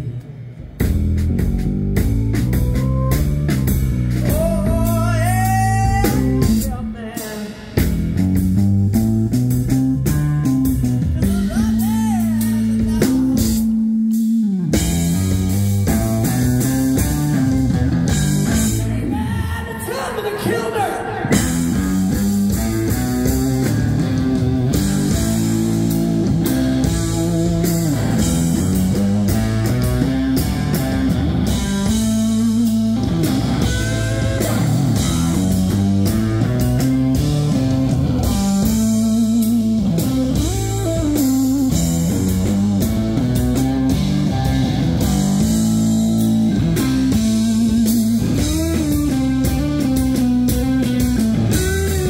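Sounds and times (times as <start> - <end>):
drums: 0.0 - 52.0
electric guitar: 0.0 - 52.0.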